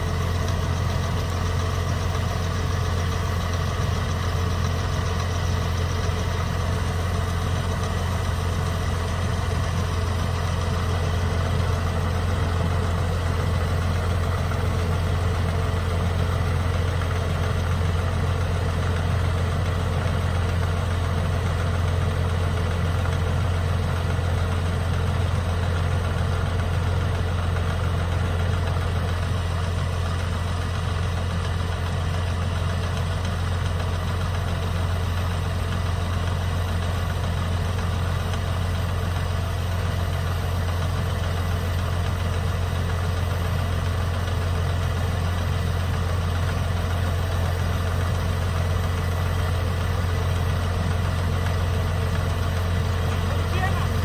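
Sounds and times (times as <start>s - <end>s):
engine humming steadily: 0.0s - 54.0s.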